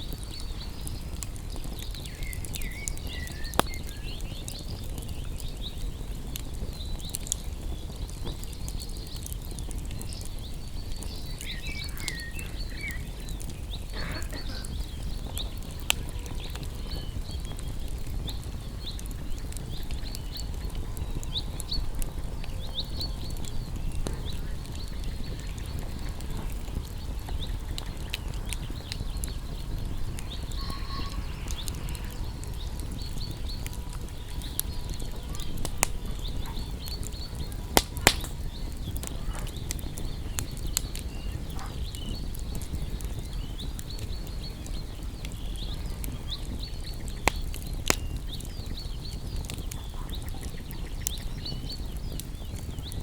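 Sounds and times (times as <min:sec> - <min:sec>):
campfire crackling and popping: 0:00.0 - 0:53.0
low rumble of flames: 0:00.0 - 0:53.0.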